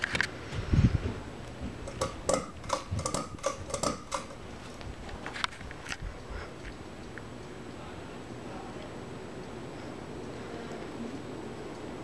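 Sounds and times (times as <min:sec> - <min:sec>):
ceiling fan running: 0:00.0 - 0:12.0
light ringing clicks and ticks: 0:01.4 - 0:07.6, 0:08.2 - 0:12.0.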